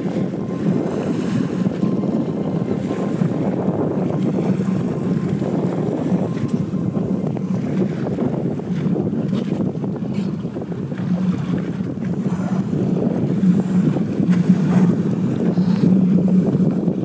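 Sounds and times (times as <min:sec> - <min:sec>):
boat engine rumbling: 0:00.0 - 0:17.0
wind buffeting microphone: 0:00.0 - 0:17.0.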